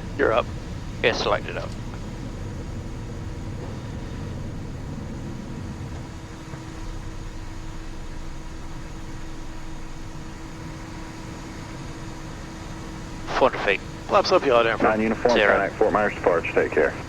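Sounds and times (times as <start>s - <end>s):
faint hum: 0.0s - 17.0s
jet engine and airflow rush: 0.0s - 17.0s.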